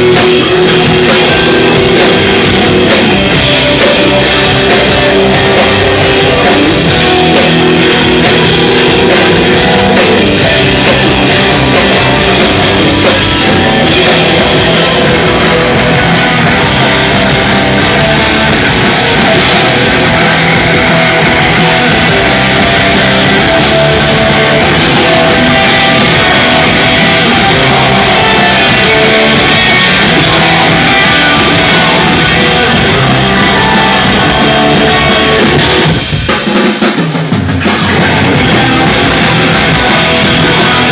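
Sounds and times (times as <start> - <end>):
bass guitar: 0.0 - 36.6, 37.2 - 40.9
distorted electric guitar: 0.0 - 40.9
drum kit: 0.0 - 40.9.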